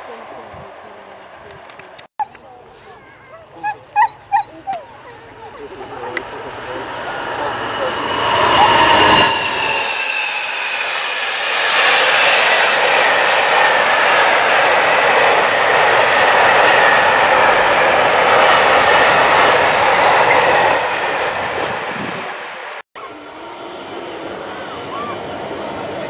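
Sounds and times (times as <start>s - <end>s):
diesel locomotive engine: 0.0s - 26.0s
train wheels rushing on rail: 4.7s - 26.0s.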